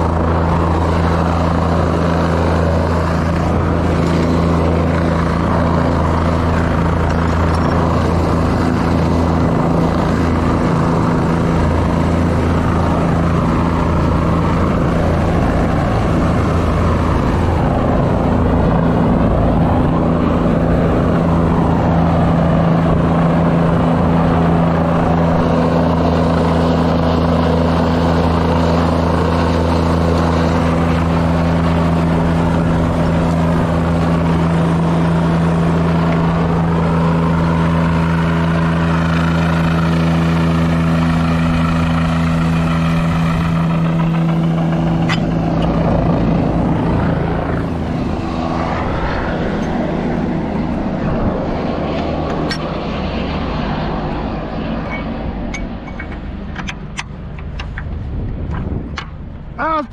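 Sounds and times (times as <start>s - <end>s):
helicopter rotor drone: 0.0s - 59.9s
rushing wind noise: 0.0s - 59.9s.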